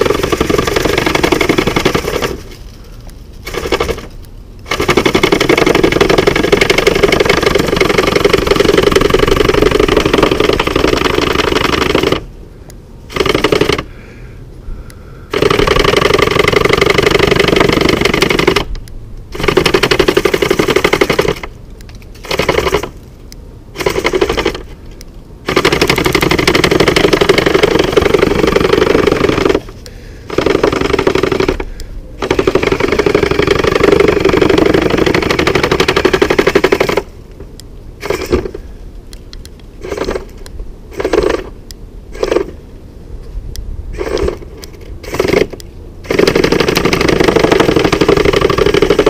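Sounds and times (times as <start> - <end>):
robot motor mechanical rattle: 0.0 - 12.3, 13.1 - 13.9, 15.3 - 23.0, 23.8 - 38.6, 39.4 - 42.6, 43.9 - 49.0.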